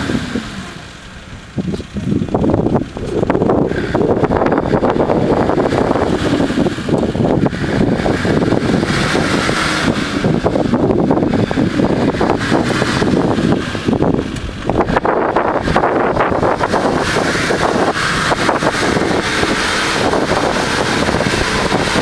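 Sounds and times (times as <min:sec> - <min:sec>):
engine running hard under load: 0:00.0 - 0:22.0
wind buffeting microphone: 0:00.0 - 0:22.0.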